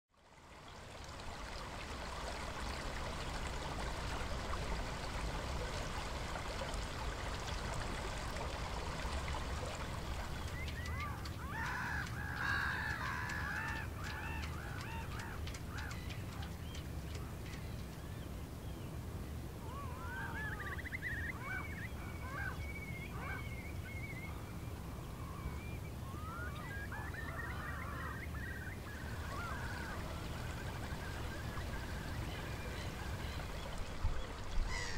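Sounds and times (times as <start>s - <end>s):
water lapping: 0.3s - 18.0s, 19.6s - 34.9s
waterbirds calling: 0.4s - 34.9s.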